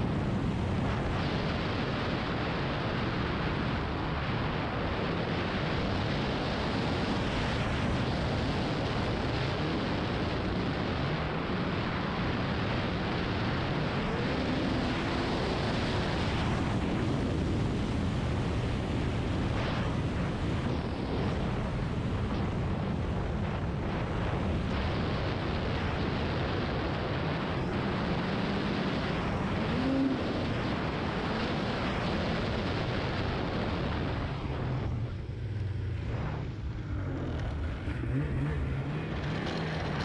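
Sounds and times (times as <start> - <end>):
wind buffeting microphone: 0.0 - 40.0
snowmobile engine running: 5.0 - 40.0.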